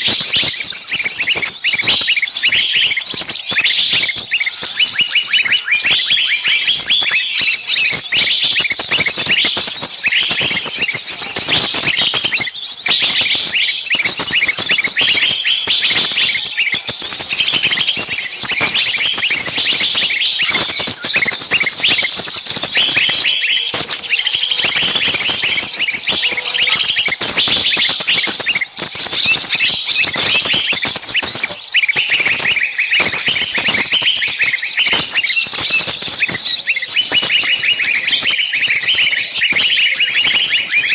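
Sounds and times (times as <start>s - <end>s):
songbirds chirping and calling: 0.0s - 40.9s.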